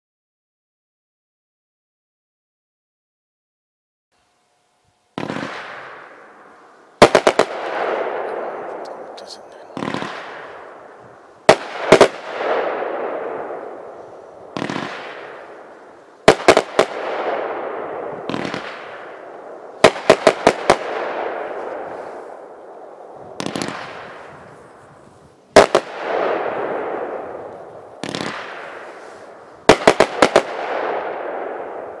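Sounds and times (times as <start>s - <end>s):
firework shells bursting: 5.2s - 32.0s.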